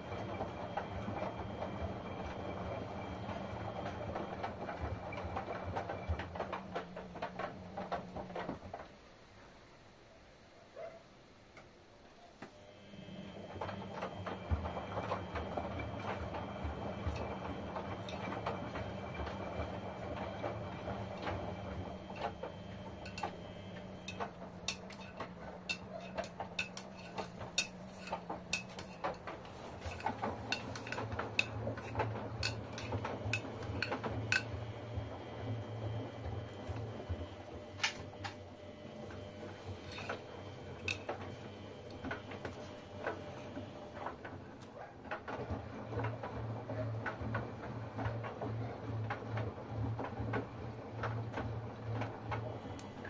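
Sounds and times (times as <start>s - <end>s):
washing machine humming: 0.0s - 10.0s, 12.5s - 53.0s.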